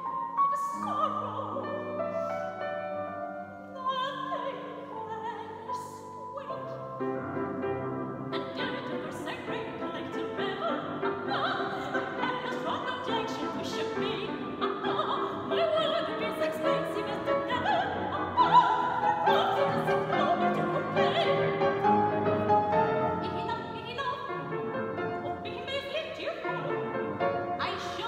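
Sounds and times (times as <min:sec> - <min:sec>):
grand piano: 0:00.0 - 0:28.0
soprano singing: 0:00.0 - 0:28.0.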